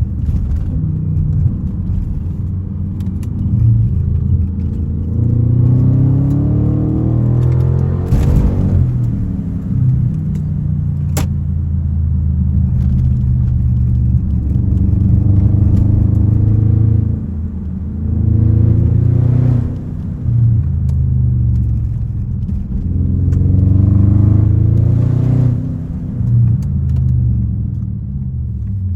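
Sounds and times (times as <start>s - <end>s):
car exhaust roaring: 0.0s - 28.9s.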